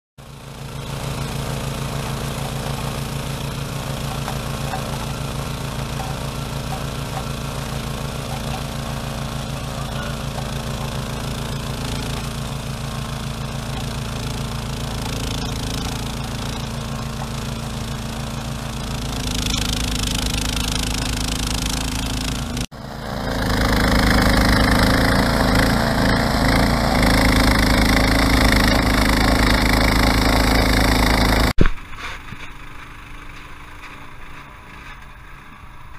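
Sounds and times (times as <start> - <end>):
snowblower engine running: 0.2 - 35.9.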